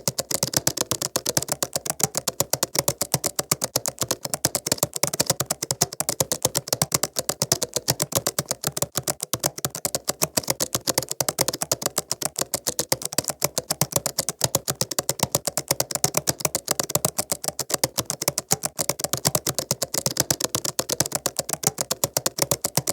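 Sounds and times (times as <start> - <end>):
laptop keyboard typing: 0.0 - 22.9.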